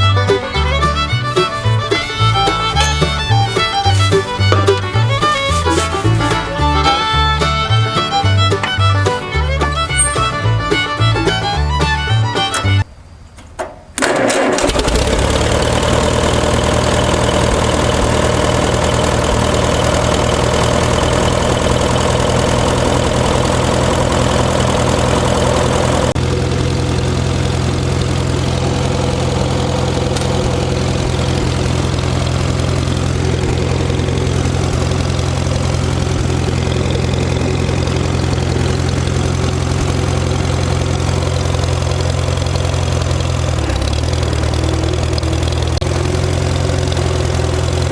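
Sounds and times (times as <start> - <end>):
car engine idling: 0.0 - 13.6, 14.4 - 47.9.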